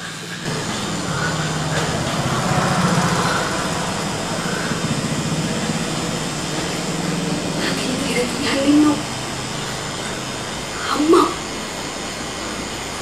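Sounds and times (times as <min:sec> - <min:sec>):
wing-flapping fluttering whirr: 0:00.0 - 0:13.0.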